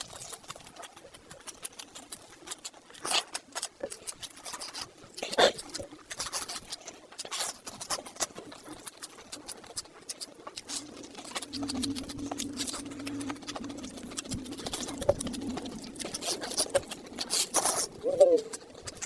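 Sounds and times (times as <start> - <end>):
wet chewing with mouth clicks: 0.0 - 19.0.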